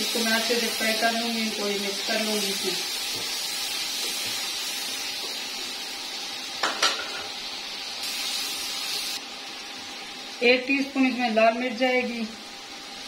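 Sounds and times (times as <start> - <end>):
onions frying in oil: 0.0 - 13.0.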